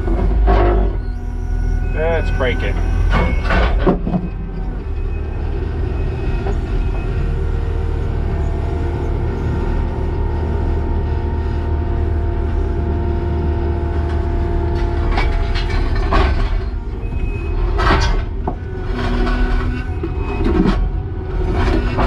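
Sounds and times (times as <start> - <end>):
diesel engine running hard: 0.0 - 22.0
hydraulic whine: 0.0 - 22.0.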